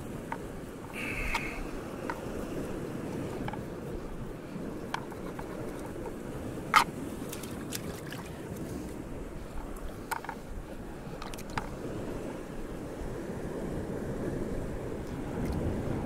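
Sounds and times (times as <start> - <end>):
sea washing: 0.0 - 16.0.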